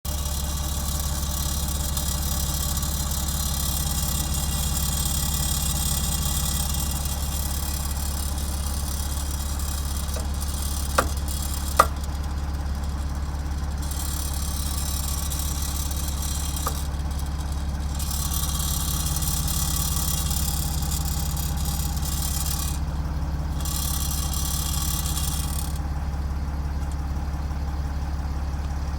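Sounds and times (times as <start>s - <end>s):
car engine idling: 0.0s - 28.9s
tailpipe trim rattling: 0.1s - 28.9s.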